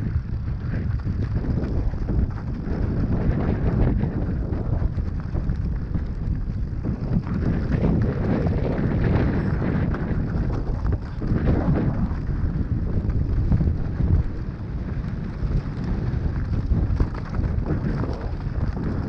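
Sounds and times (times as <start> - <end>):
bike knocks and rattles: 0.0 - 19.0
tyres crunching on dirt: 0.0 - 19.0
wind on microphone: 0.0 - 19.0.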